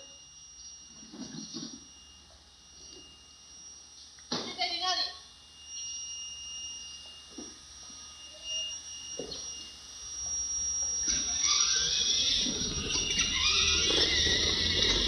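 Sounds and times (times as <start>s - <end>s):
ride-on toy scooter electronic tone: 0.0s - 15.0s.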